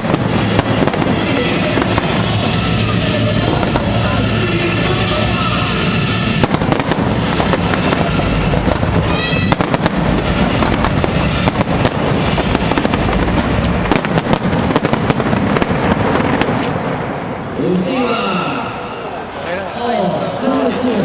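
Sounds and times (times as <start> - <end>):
rumble of explosions: 0.0 - 17.9
fireworks bangs and crackles: 0.0 - 19.5.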